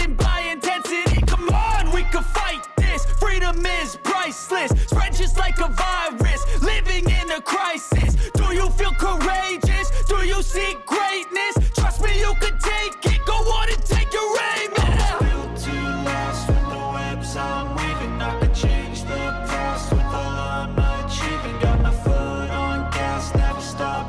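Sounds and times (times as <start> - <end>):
hip hop music with heavy bass: 0.0 - 24.0.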